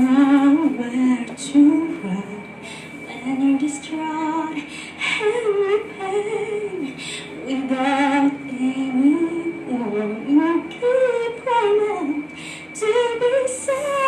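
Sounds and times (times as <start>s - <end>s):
woman singing: 0.0s - 14.0s.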